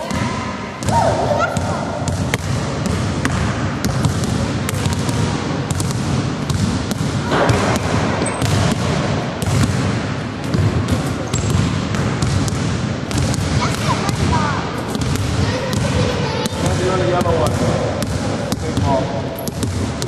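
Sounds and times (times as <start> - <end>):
basketball bouncing on hardwood floor: 1.6 - 20.0.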